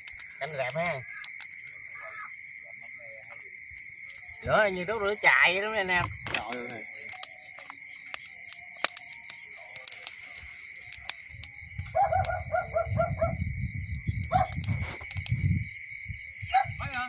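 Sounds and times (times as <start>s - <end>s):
campfire crackling and popping: 0.0s - 17.0s
crickets chirring: 0.0s - 17.0s.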